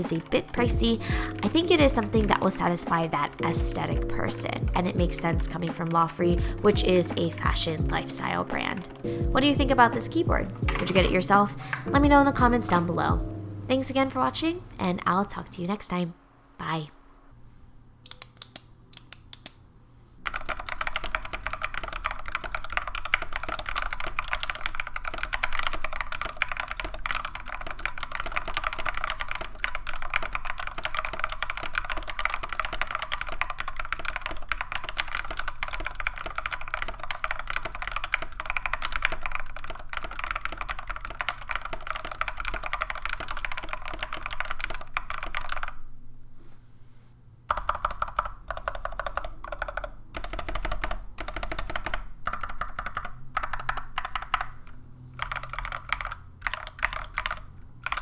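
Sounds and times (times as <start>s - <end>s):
mechanical keyboard typing: 0.0s - 13.1s, 18.1s - 19.6s, 20.2s - 45.8s, 47.5s - 58.0s.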